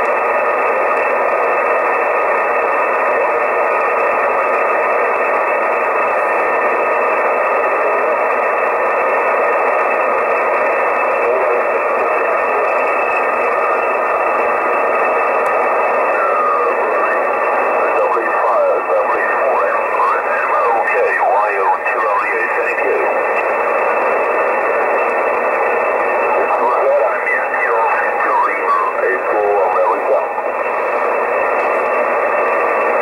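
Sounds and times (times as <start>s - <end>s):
shortwave radio hiss: 0.4s - 33.0s.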